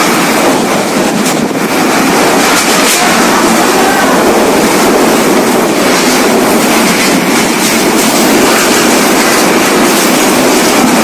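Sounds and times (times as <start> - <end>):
driving rain: 0.0 - 11.0
strong wind: 0.0 - 11.0.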